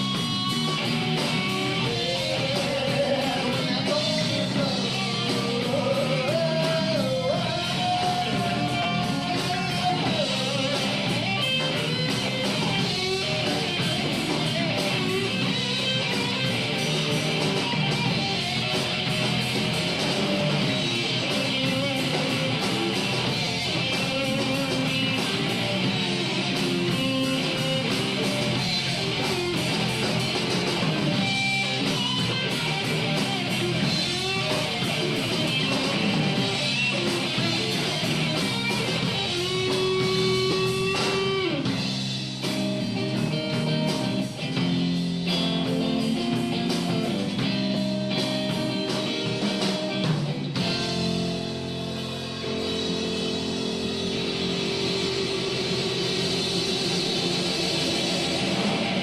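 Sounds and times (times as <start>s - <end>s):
electric guitar instrumental: 0.0s - 59.0s.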